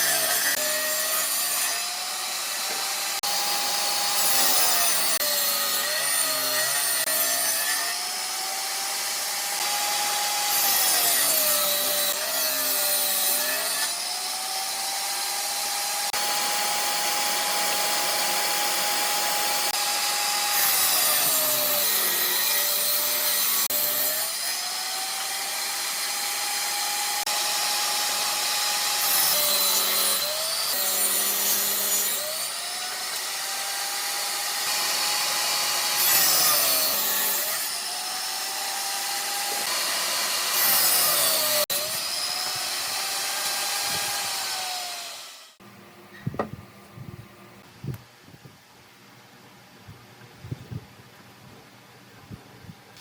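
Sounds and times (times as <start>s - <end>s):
power tool cutting wood: 0.0s - 45.6s.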